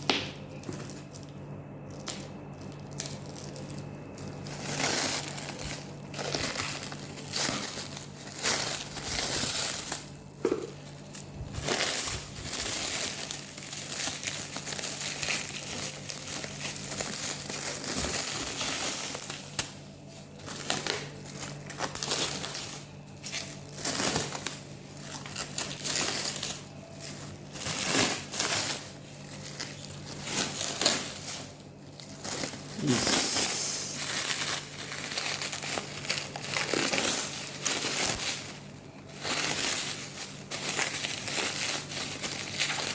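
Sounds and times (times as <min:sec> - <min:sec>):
packaging crinkling and rustling: 0:00.1 - 0:42.9.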